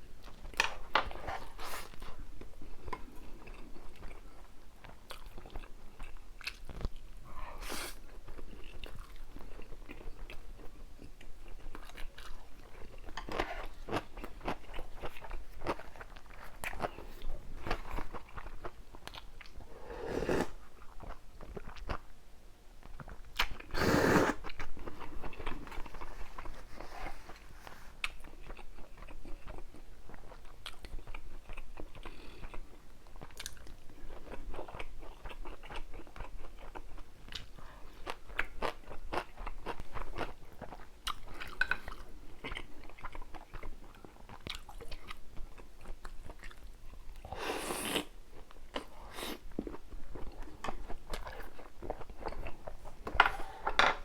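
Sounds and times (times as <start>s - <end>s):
chewing and crunching: 0.2s - 7.1s, 8.1s - 19.6s, 24.4s - 47.3s, 48.3s - 52.9s.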